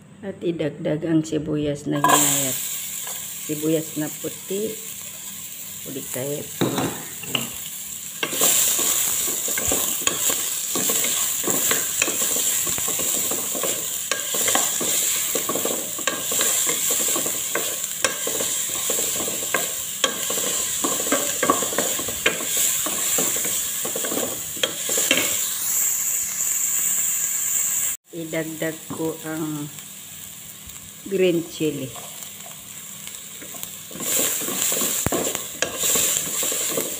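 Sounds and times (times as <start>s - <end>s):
onions sizzling in oil: 2.0s - 36.9s.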